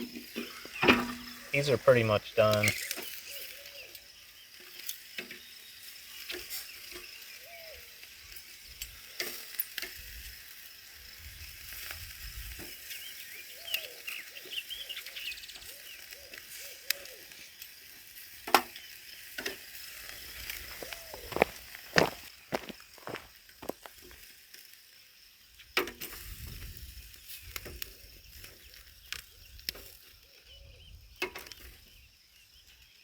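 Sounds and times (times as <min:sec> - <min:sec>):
food sizzling on a grill: 0:00.0 - 0:33.0.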